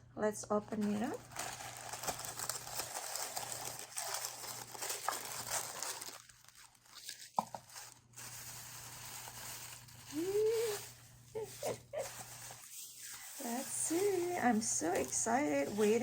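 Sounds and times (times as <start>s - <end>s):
paper packaging rustling: 0.7s - 16.0s.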